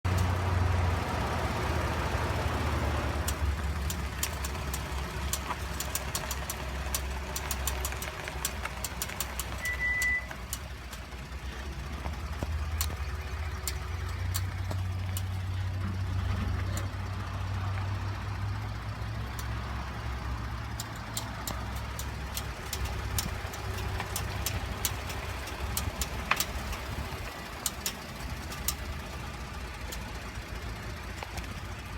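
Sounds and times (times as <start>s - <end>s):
pickup truck engine running: 0.0s - 31.9s
sharp clicking from wheel: 0.1s - 31.9s.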